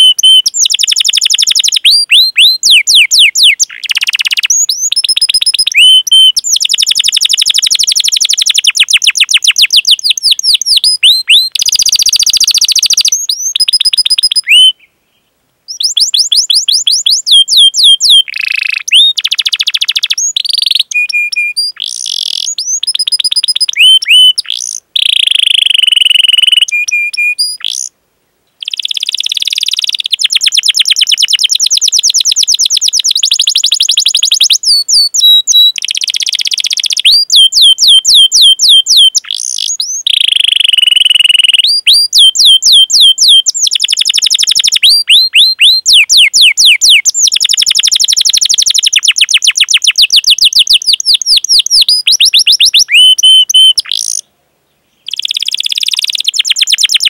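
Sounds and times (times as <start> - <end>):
canary singing trills: 0.0 - 14.9, 15.7 - 27.9, 28.6 - 54.3, 55.0 - 57.0.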